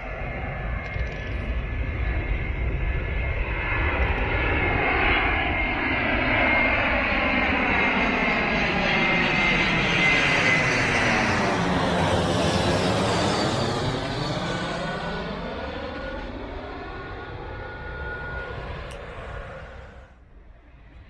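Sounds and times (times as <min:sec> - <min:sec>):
high-pitched engine whine: 0:00.0 - 0:21.0
jet airliner passing overhead: 0:00.0 - 0:21.0.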